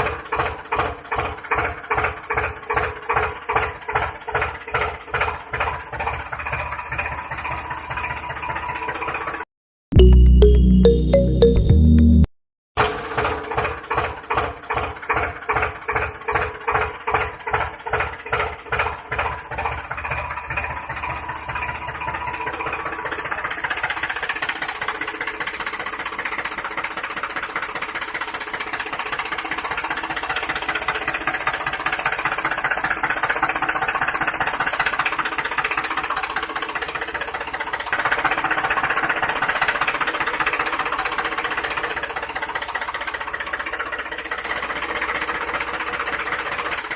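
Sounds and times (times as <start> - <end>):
model tractor motor knocking: 0.0 - 9.4, 12.8 - 46.9.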